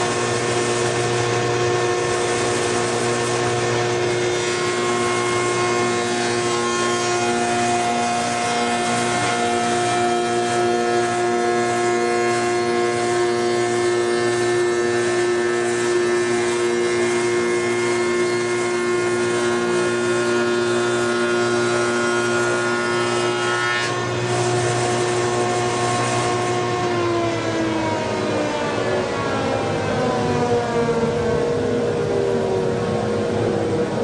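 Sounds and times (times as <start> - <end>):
electric motor humming: 0.0 - 34.0.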